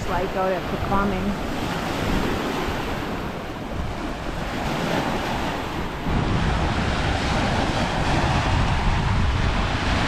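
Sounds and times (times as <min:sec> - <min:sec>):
waves washing onto rocky shore: 0:00.0 - 0:10.0
wind buffeting microphone: 0:00.0 - 0:10.0.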